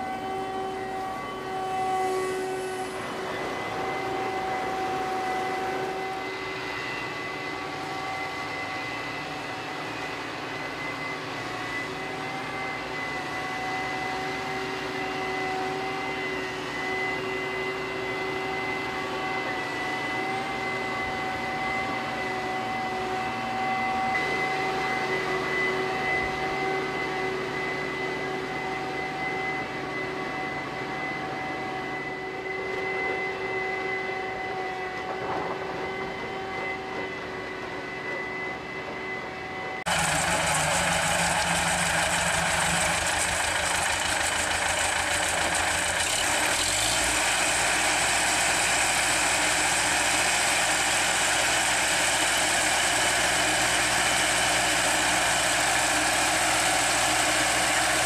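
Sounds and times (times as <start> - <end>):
harsh harvester engine and cutting: 0.0 - 58.0
harvester and tractor humming: 0.0 - 58.0
whining tones: 0.0 - 58.0.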